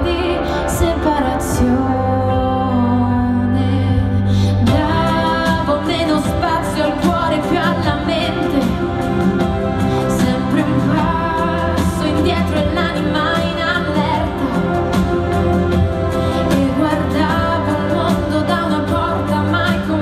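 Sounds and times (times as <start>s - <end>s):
band and keyboard backing: 0.0s - 20.0s
woman singing pop ballad: 0.0s - 20.0s.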